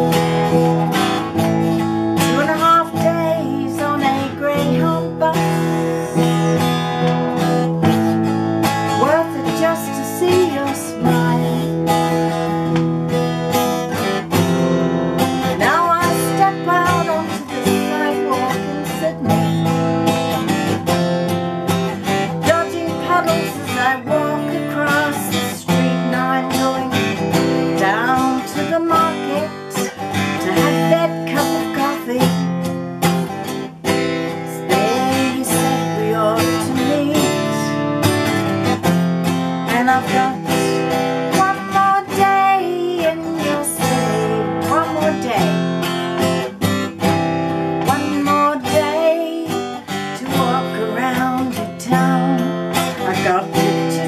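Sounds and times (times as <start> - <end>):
strummed acoustic guitar: 0.0 - 54.0
woman singing: 0.0 - 54.0.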